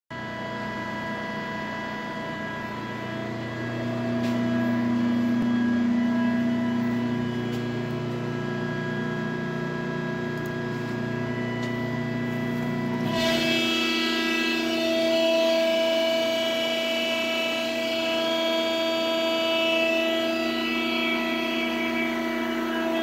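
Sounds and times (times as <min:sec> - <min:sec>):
hydraulic pump humming and whining: 0:00.1 - 0:23.0.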